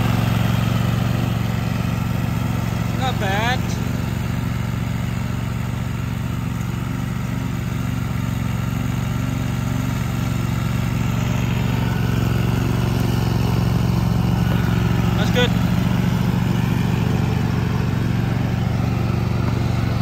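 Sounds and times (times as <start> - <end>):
riding lawn mower engine: 0.0 - 20.0.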